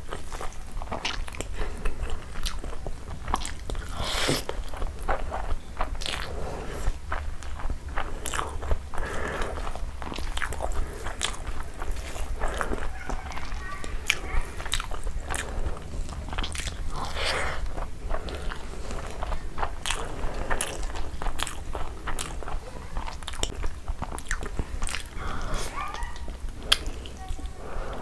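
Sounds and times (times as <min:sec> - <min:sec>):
wet chewing with mouth clicks: 0:00.0 - 0:28.0.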